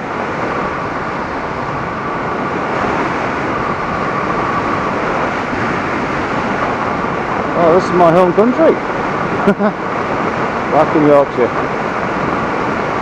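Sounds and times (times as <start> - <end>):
motorcycle riding at speed: 0.0 - 13.0
wind rushing: 0.0 - 13.0.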